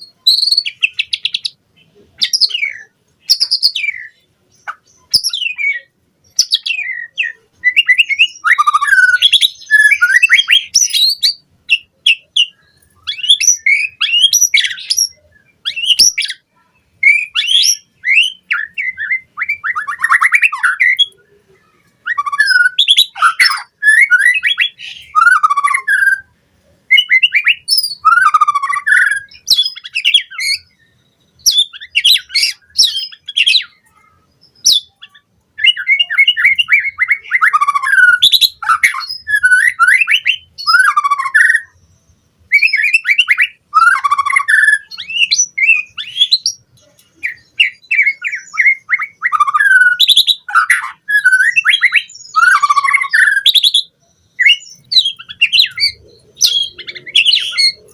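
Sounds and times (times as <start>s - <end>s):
bird singing whistled phrases: 0.0s - 26.3s, 26.9s - 41.9s, 42.5s - 46.6s, 47.2s - 57.9s.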